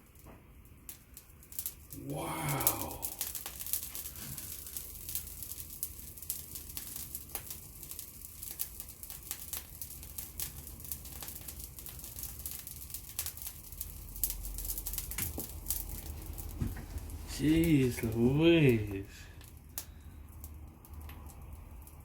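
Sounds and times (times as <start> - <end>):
fan heater crackling and ticking: 0.0 - 22.0
fan heater hum: 0.0 - 22.0.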